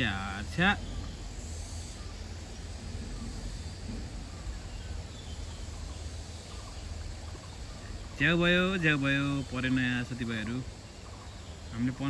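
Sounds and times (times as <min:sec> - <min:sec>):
faint distant calls: 0:00.0 - 0:12.0.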